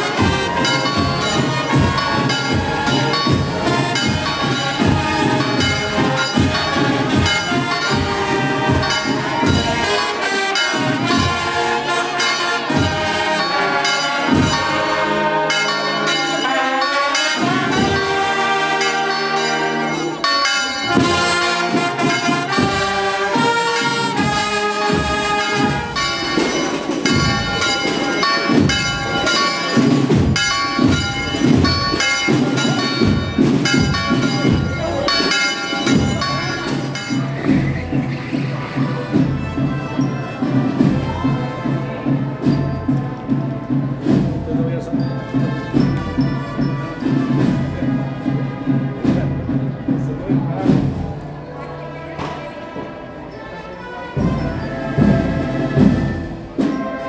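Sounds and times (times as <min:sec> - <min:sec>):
brass band playing: 0:00.0 - 0:57.0
church bells ringing: 0:00.0 - 0:57.0.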